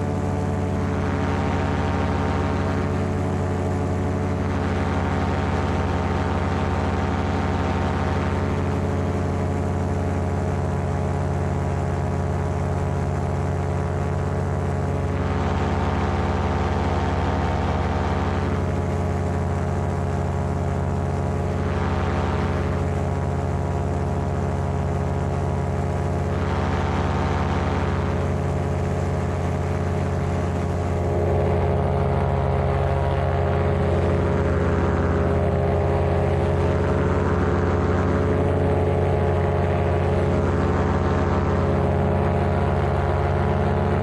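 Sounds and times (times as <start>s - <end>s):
paramotor engine running: 0.0s - 44.0s.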